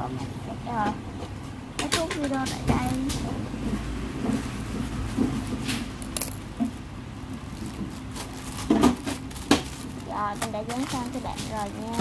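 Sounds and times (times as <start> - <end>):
rustling handling noise: 1.9 - 12.0.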